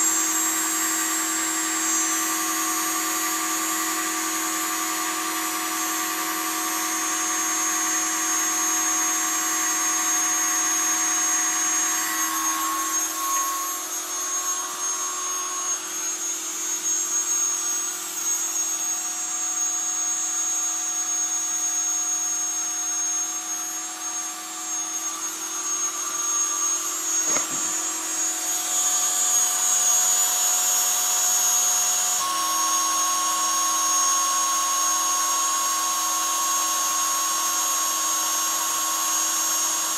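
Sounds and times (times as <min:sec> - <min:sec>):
spindle motor whining: 0:00.0 - 0:39.9.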